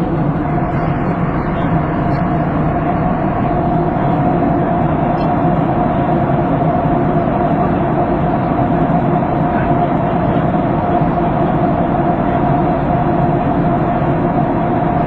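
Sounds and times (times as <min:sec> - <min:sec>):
aircraft engines and rushing air: 0:00.0 - 0:15.0
steady hum: 0:00.0 - 0:15.0.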